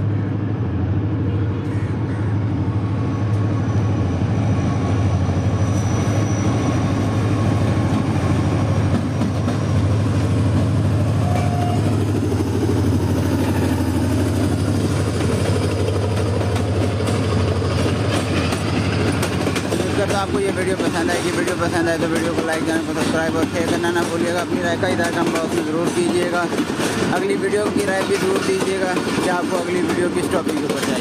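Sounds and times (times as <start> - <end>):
locomotive engines droning: 0.0 - 31.0
train rolling on rails: 0.0 - 31.0.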